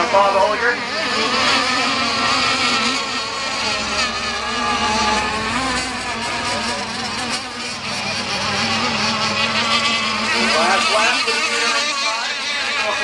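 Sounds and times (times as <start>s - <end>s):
model boat engines whining: 0.0s - 13.0s.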